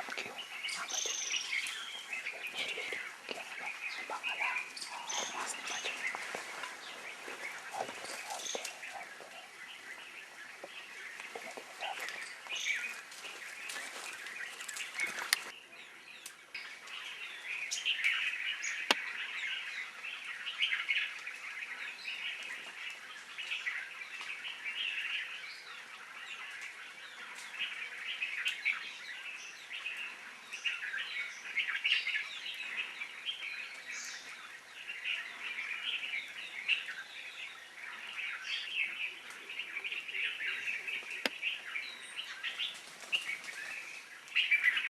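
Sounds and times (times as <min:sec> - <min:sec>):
birds chirping in chorus: 0:00.0 - 0:44.9.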